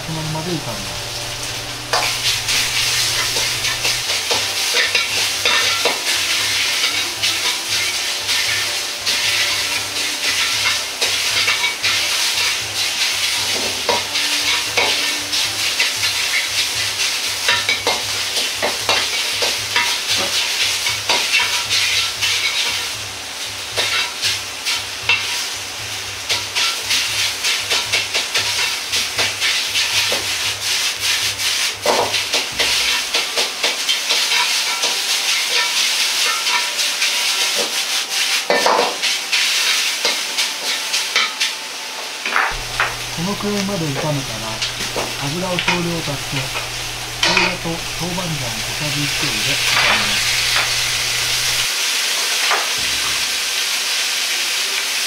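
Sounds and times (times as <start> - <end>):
meat sizzling in a wok: 0.0 - 55.0.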